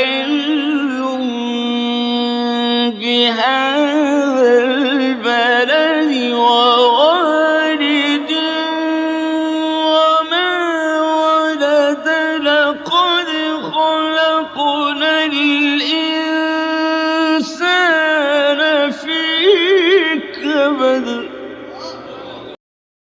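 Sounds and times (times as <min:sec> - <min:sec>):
man chanting melodically: 0:00.0 - 0:22.6.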